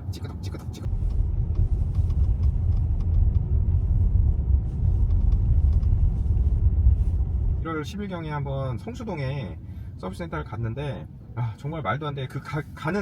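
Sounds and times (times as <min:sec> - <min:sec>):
road rumble in car cabin: 0:00.0 - 0:13.0.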